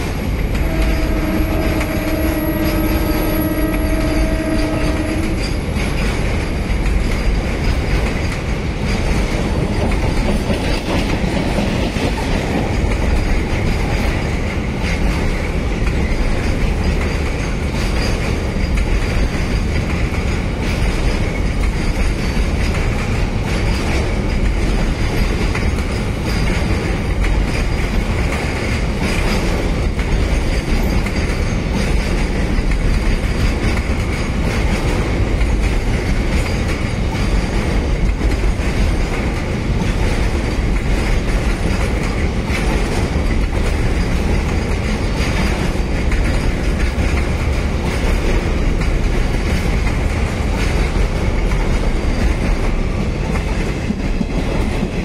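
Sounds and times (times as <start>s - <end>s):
steel wheels rumbling on rails: 0.0s - 55.0s
wheels clattering over rail joints: 0.0s - 55.0s.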